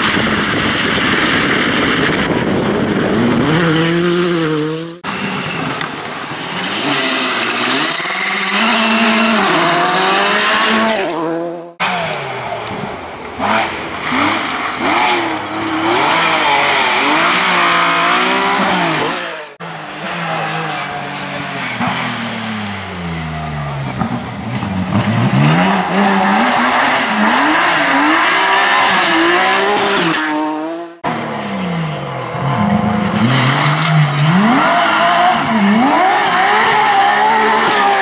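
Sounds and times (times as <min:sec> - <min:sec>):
rally cars passing at speed: 0:00.0 - 0:38.0.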